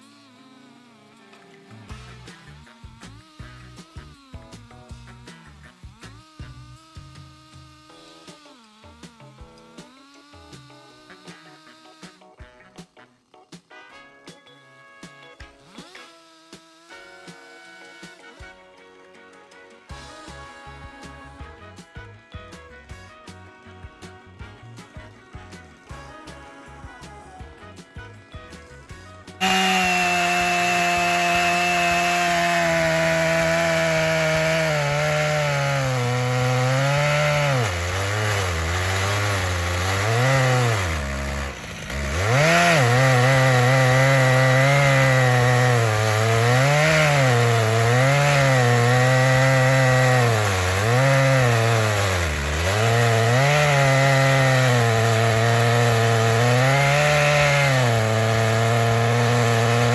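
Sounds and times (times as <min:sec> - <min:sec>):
chainsaw cutting log: 0:00.0 - 0:14.3, 0:15.0 - 0:59.9.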